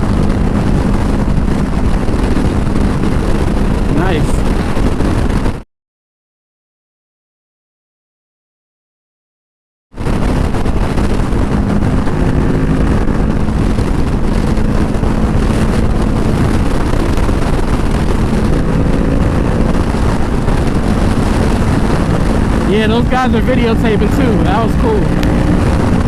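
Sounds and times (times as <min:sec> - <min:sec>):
motorcycle engine running: 0:00.0 - 0:05.6, 0:10.1 - 0:26.0
wind rush over microphone: 0:00.0 - 0:05.6, 0:09.9 - 0:26.0.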